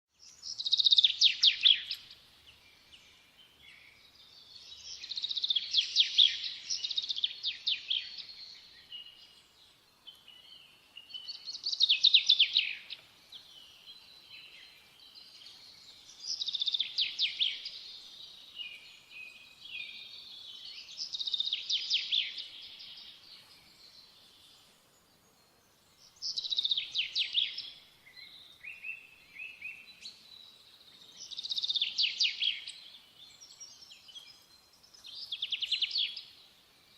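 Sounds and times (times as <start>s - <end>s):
songbird chirping trills: 0.1s - 36.9s.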